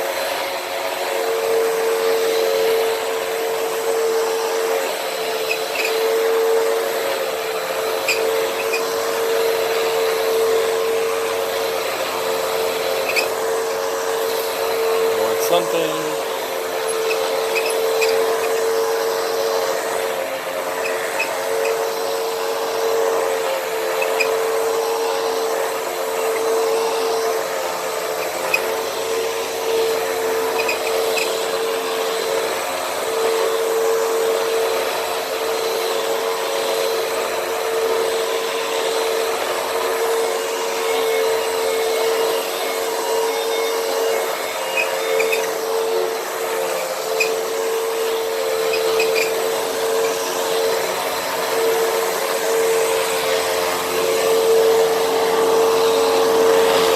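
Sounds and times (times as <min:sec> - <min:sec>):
vacuum cleaner running on a rug: 0:00.0 - 0:56.9.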